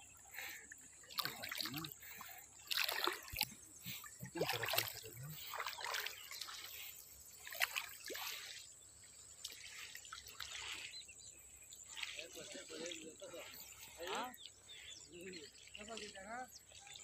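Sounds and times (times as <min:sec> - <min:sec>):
small water splashes: 0:00.0 - 0:17.0
water trickling and dripping: 0:00.0 - 0:17.0.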